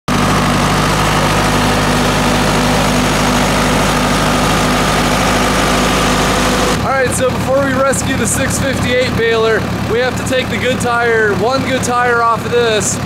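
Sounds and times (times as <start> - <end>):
tractor diesel engine running: 0.1 - 13.0.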